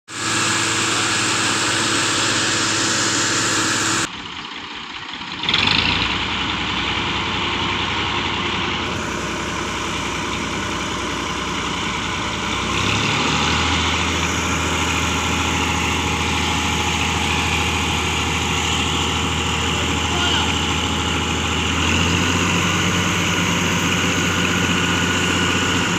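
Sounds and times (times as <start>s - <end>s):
tractor engine running: 0.1s - 25.9s.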